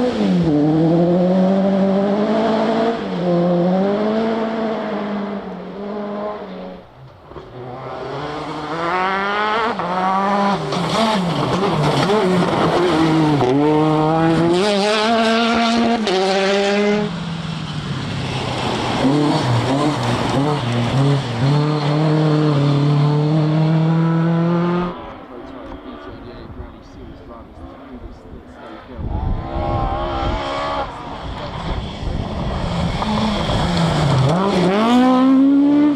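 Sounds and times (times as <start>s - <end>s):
car accelerating hard: 0.0s - 35.9s
rally car engines revving: 0.0s - 35.9s.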